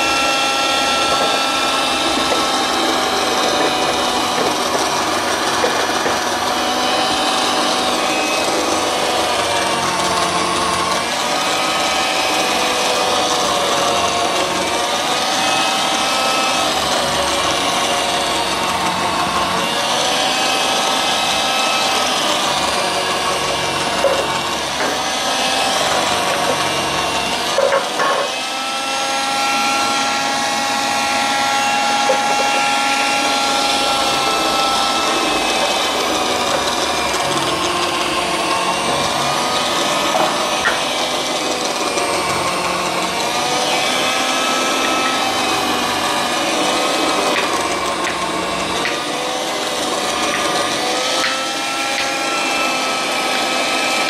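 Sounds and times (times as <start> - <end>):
citrus press motor whining: 0.0 - 54.0.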